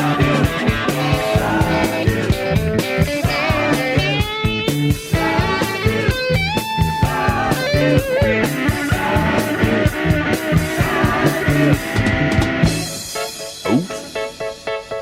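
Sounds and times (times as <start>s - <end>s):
steady drum beat: 0.0s - 13.3s
bass: 0.0s - 14.6s.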